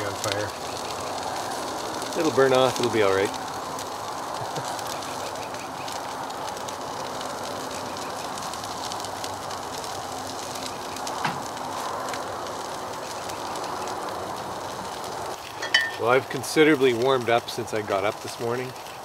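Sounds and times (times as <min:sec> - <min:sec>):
camp stove burning hiss: 0:00.0 - 0:19.0
food frying crackle: 0:00.0 - 0:19.0.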